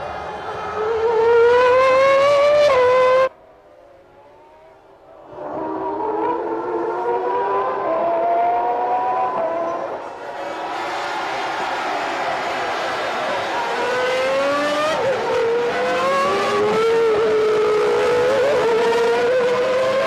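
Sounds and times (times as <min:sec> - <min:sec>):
racing car engine at high revs: 0:00.3 - 0:03.3, 0:04.0 - 0:20.0.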